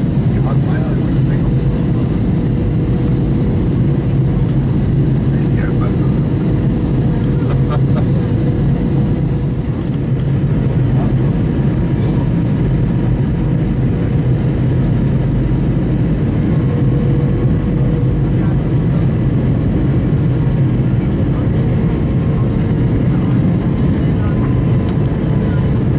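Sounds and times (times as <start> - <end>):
aircraft engine and airflow drone: 0.0 - 25.9.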